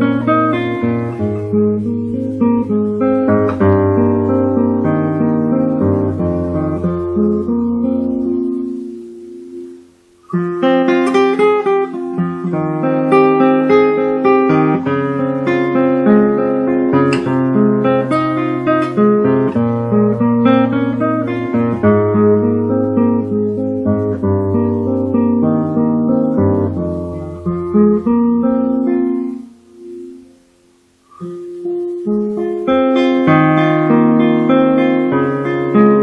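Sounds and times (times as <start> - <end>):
classical guitar fingerstyle: 0.0 - 36.0.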